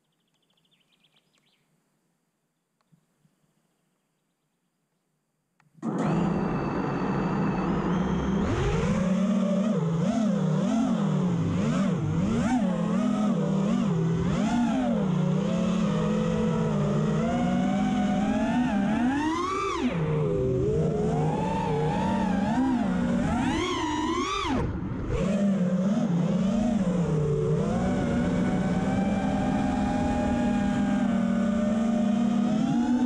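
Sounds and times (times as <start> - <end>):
drone motors whining: 5.8 - 33.0.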